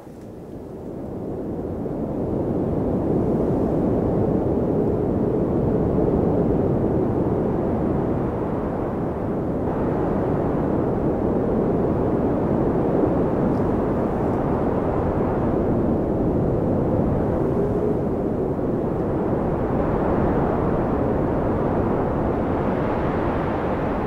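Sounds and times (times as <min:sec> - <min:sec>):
wind blowing in a snowstorm: 0:00.0 - 0:24.0.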